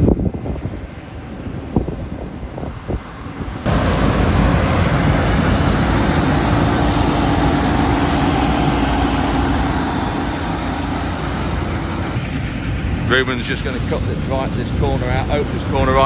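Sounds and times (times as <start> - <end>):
combine harvester drone: 0.6 - 16.0.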